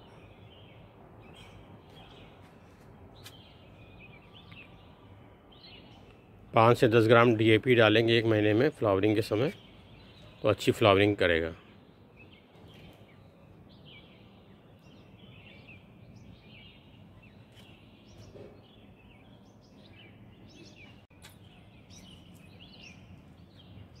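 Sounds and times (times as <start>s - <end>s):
faint birds chirping: 0.0s - 24.0s
low outdoor noise: 0.0s - 24.0s.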